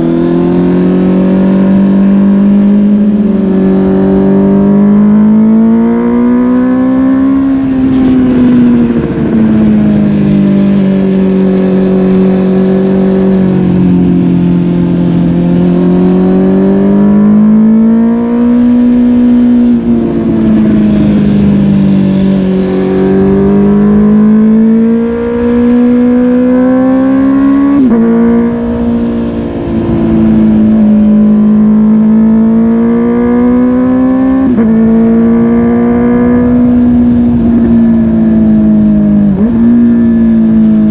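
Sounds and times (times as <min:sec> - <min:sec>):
motorcycle engine revving: 0:00.0 - 0:40.9
wind and road noise: 0:00.0 - 0:40.9.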